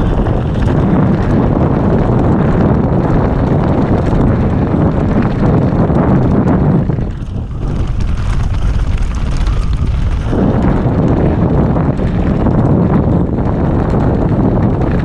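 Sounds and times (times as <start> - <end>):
bike rattling over rough trail: 0.0 - 15.0
wind buffeting microphone: 0.0 - 15.0.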